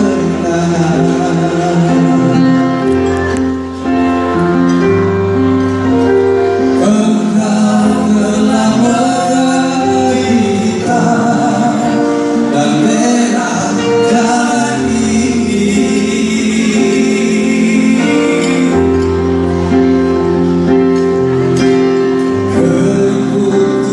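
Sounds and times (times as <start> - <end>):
man singing into a microphone: 0.0 - 4.0, 6.6 - 21.2, 21.8 - 23.9
instrumental accompaniment: 0.0 - 23.9.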